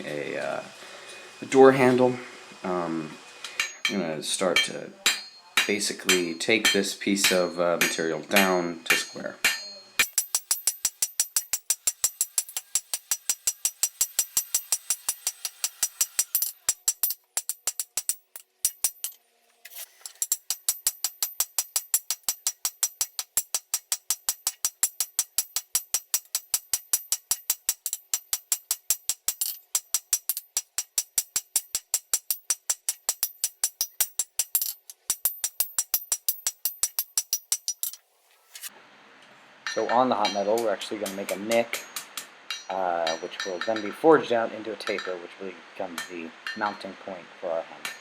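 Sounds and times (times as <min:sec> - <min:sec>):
hammer striking steel on anvil: 0:03.6 - 0:38.0, 0:39.6 - 0:45.2, 0:45.9 - 0:46.9.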